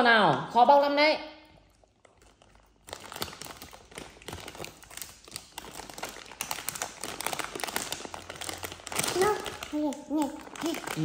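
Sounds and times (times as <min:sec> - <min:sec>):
plastic packaging crinkling: 0:01.5 - 0:11.0.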